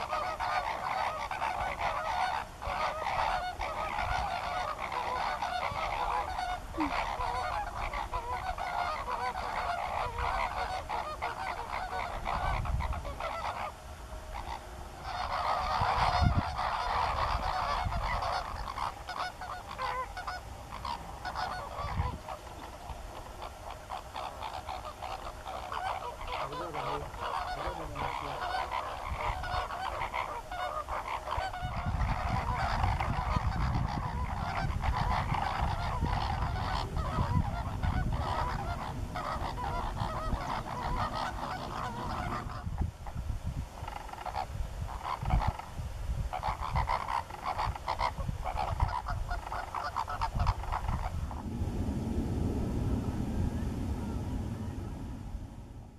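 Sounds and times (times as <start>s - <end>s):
flamingos honking: 0.0s - 55.9s.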